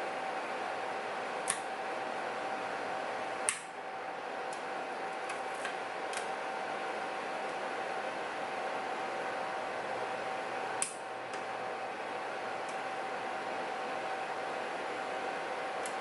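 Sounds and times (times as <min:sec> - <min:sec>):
steady hiss and hum: 0:00.0 - 0:16.0.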